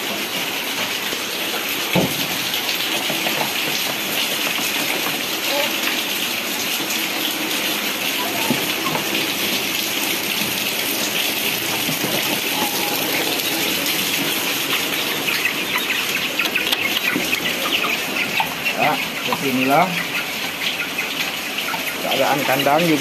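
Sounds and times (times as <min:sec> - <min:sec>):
rain falling steadily: 0:00.0 - 0:23.0.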